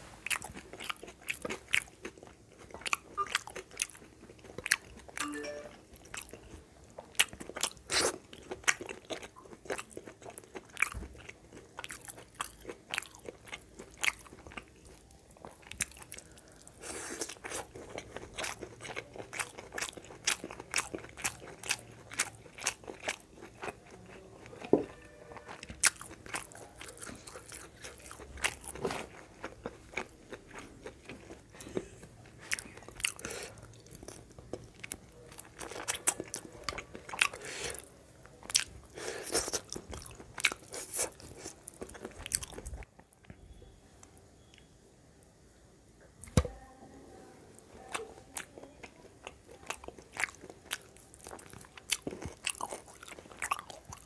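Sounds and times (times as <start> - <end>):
person chewing crunchy food: 0.2 - 43.1, 47.9 - 54.0.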